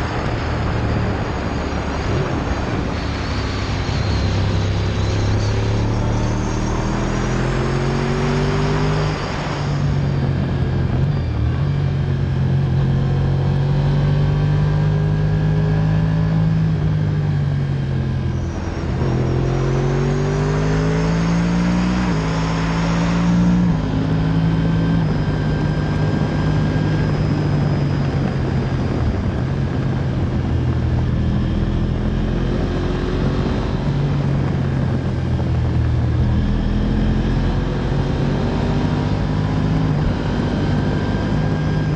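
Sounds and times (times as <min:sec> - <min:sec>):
motorcycle engine revving: 0:00.0 - 0:41.9
wind noise: 0:00.0 - 0:41.9.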